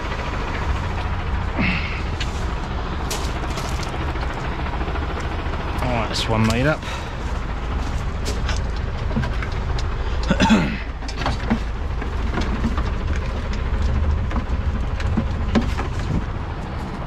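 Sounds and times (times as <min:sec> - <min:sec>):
heavy vehicle engines rumbling: 0:00.0 - 0:17.0.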